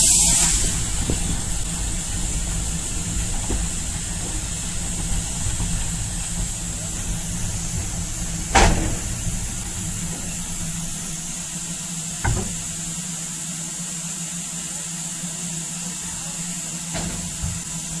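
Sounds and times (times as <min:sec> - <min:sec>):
steam hissing: 0:00.0 - 0:18.0
train rumbling on track: 0:00.0 - 0:18.0.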